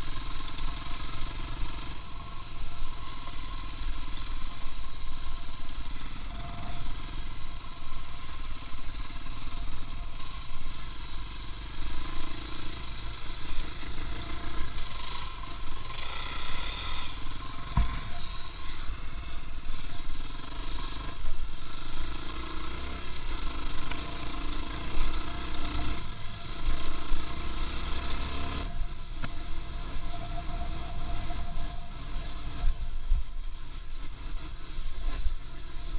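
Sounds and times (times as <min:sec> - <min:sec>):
vehicle engine and road rumble: 0:00.0 - 0:35.9.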